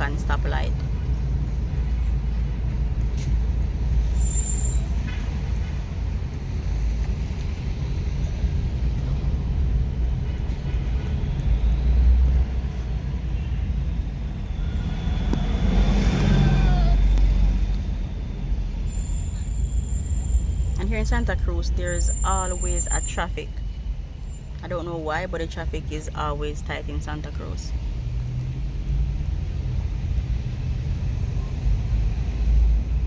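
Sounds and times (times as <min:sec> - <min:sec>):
car engine rumbling: 0:00.0 - 0:33.0
road noise: 0:00.0 - 0:33.0.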